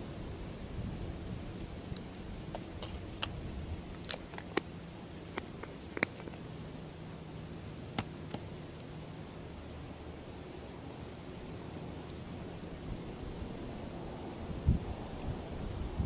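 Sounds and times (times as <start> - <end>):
low hiss and hum: 0.0 - 16.0.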